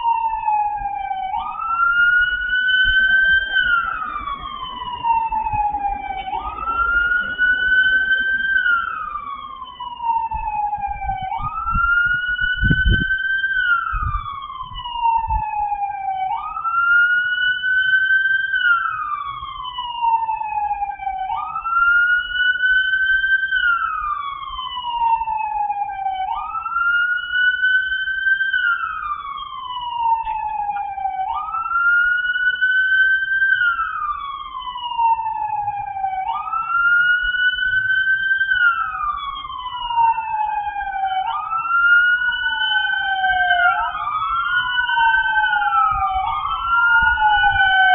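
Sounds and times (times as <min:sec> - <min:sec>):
police siren wailing: 0:00.0 - 0:47.9.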